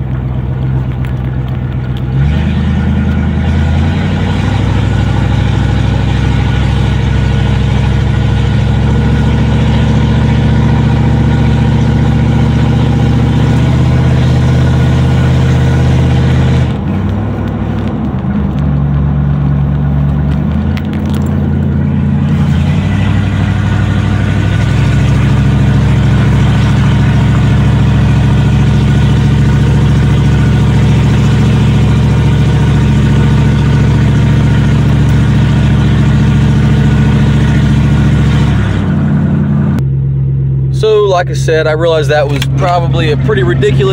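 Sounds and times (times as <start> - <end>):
loud engine through open exhaust: 0.0 - 43.9.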